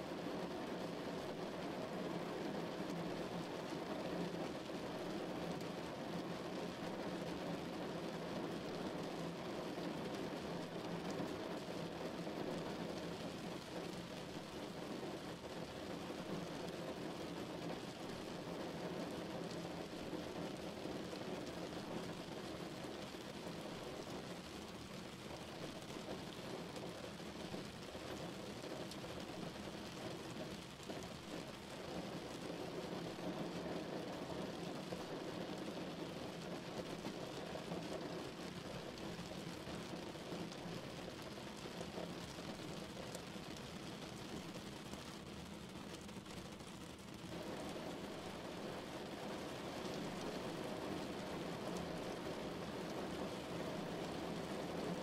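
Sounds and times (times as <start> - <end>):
rain behind a window: 0.0 - 55.0.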